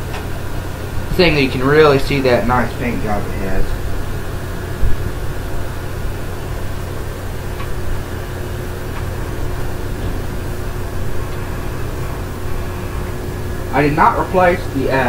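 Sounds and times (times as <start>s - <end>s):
faint whine: 0.0s - 15.0s
tape recorder humming: 0.0s - 15.0s.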